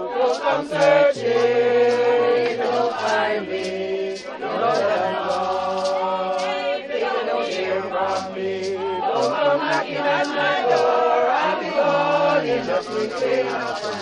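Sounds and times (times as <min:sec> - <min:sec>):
group singing a hymn unaccompanied: 0:00.0 - 0:14.0.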